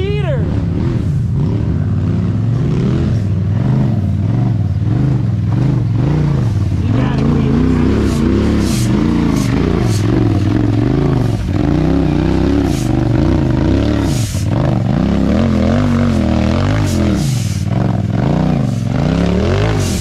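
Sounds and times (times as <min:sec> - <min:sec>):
engine revving up and down: 0:00.0 - 0:20.0.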